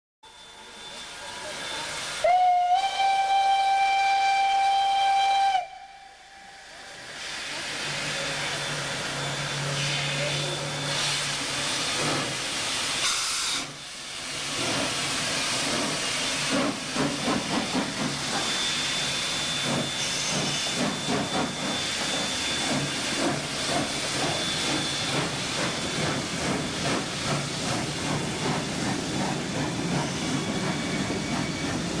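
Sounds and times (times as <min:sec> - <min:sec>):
steam hissing: 0:00.3 - 0:32.0
steam locomotive chuffing: 0:00.3 - 0:32.0.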